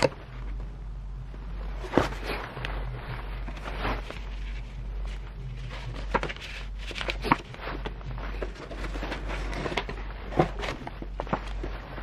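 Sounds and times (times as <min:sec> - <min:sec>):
paper and cardboard rustling: 0:01.8 - 0:12.0.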